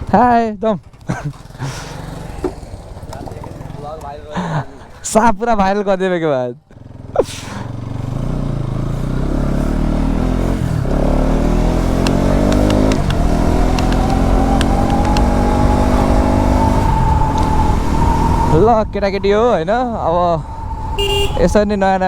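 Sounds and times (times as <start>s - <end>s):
motorcycle engine accelerating: 0.0s - 4.9s, 6.7s - 21.7s
wind and road rumble: 0.0s - 22.0s.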